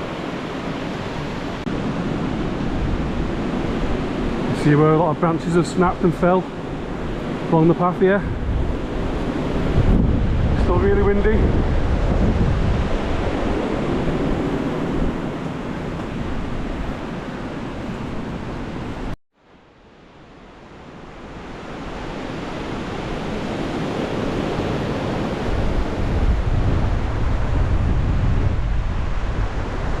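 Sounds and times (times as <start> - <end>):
storm wind buffeting microphone: 0.0 - 19.2, 21.1 - 30.0.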